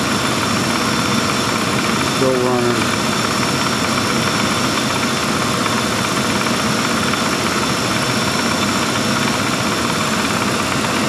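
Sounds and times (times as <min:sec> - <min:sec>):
air conditioning compressor running: 0:00.0 - 0:11.0.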